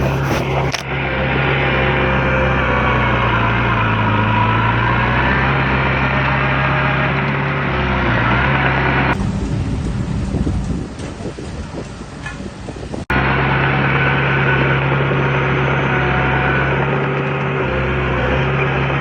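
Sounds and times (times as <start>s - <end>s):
engine whine: 0.0s - 19.0s
heavy diesel engine running: 0.0s - 19.0s.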